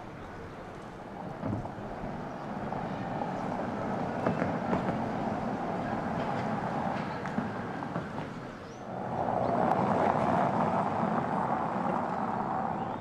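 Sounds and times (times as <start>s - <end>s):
car tyre and road noise: 0.0s - 13.0s.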